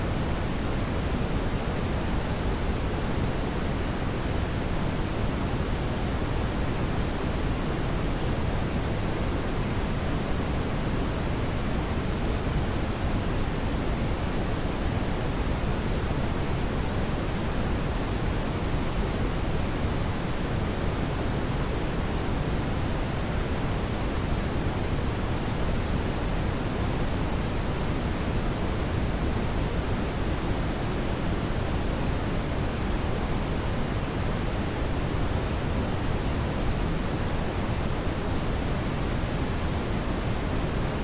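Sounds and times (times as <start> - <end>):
brown noise hiss: 0.0 - 41.0.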